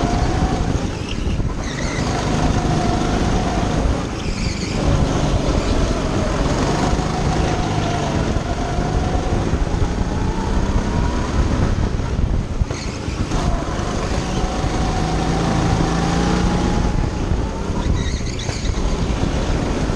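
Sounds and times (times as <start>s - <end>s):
go-kart engine running: 0.0s - 19.9s
rushing wind noise: 0.0s - 19.9s.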